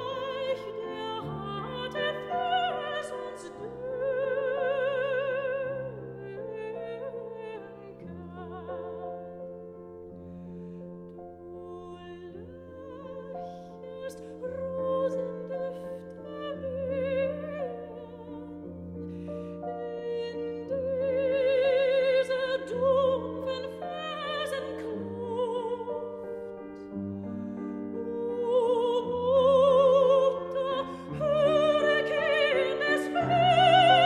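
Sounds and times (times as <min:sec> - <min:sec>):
slow operatic classical music: 0:00.0 - 0:34.0.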